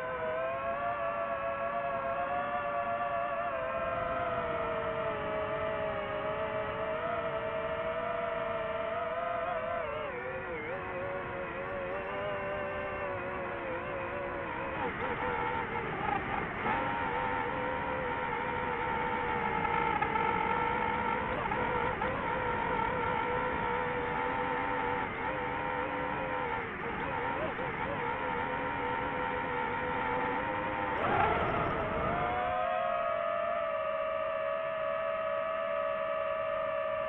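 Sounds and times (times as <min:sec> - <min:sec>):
drone propellers whining: 0:00.0 - 0:37.0.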